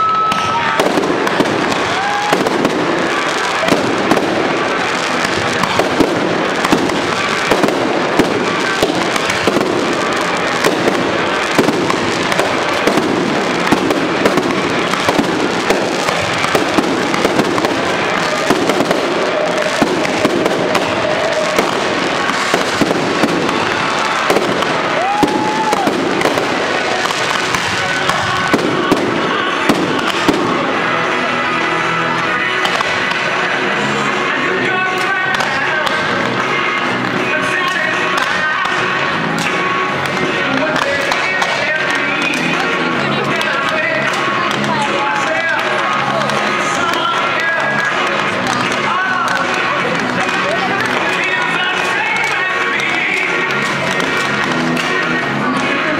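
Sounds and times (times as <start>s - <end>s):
firework bangs: 0.0s - 55.9s
fireworks crackling: 0.0s - 55.9s.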